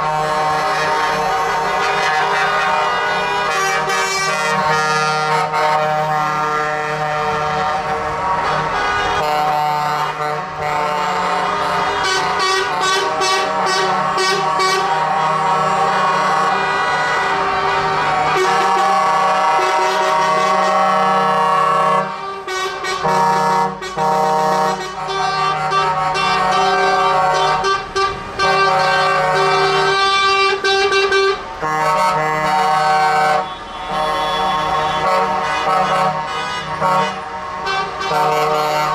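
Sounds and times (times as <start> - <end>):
truck air horns blaring: 0.0 - 38.9.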